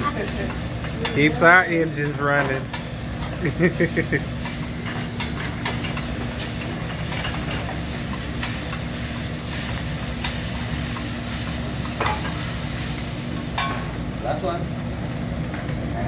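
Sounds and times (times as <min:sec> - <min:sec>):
food sizzling on griddle: 0:00.0 - 0:16.0.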